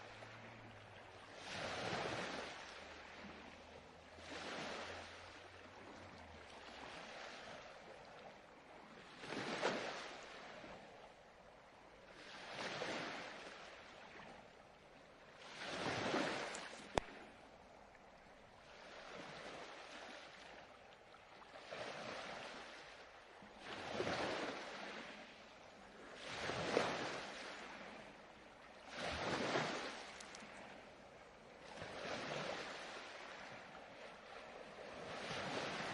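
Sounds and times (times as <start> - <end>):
ocean waves breaking on shore: 0.0 - 35.9.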